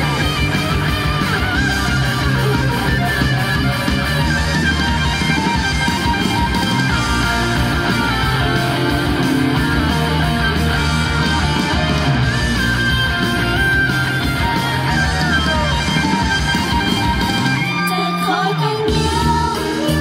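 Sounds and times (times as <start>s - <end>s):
instrumental rock music with guitars: 0.0s - 20.0s.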